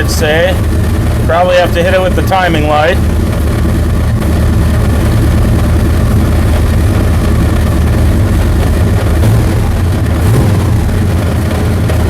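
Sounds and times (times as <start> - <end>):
car engine fast idle: 0.0 - 12.0.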